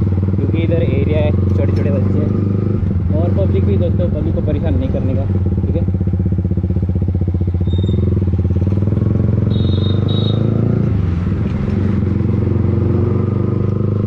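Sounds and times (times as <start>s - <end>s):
motorcycle engine exhaust: 0.0s - 14.0s.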